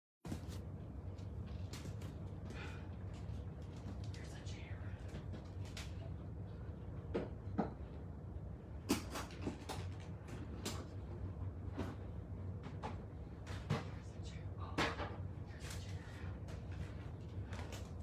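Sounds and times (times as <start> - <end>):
low steady hum: 0.3 - 18.0.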